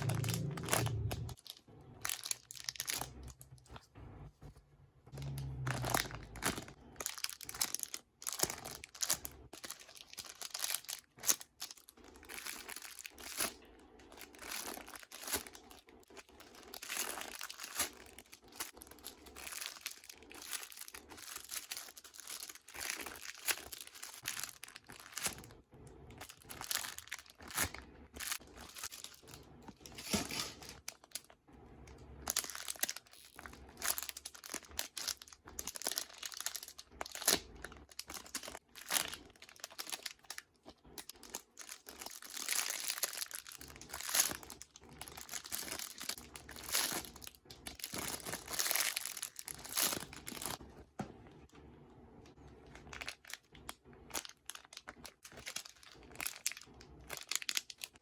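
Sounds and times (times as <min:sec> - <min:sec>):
plastic packaging crinkling: 0:00.0 - 0:04.5, 0:05.1 - 0:51.5, 0:52.1 - 0:58.0.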